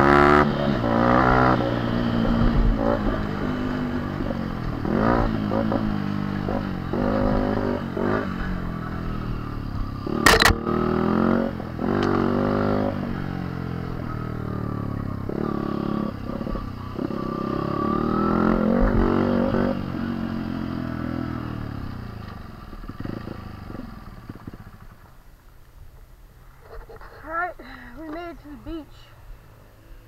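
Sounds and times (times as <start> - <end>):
dirt bike engine revving: 0.0 - 24.7.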